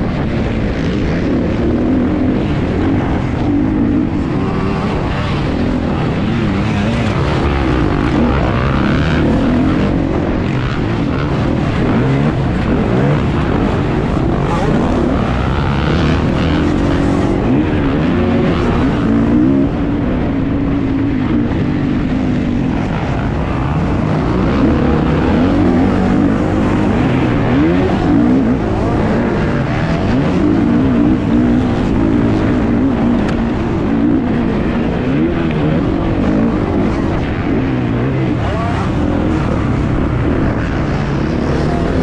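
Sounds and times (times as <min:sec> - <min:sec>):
dirt bike engine revving: 0:00.0 - 0:42.0
steady rush of noise: 0:00.0 - 0:42.0.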